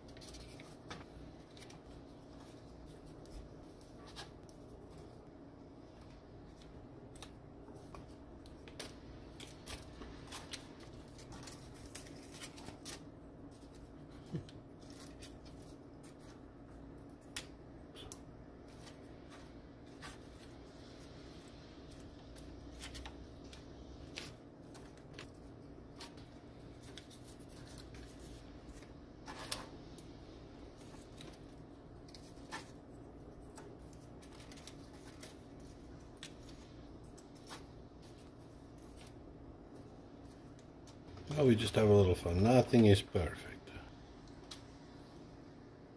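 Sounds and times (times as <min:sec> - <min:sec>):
dry chips clicking and crinkling: 0:00.0 - 0:41.1
steady low hum: 0:00.0 - 0:45.9.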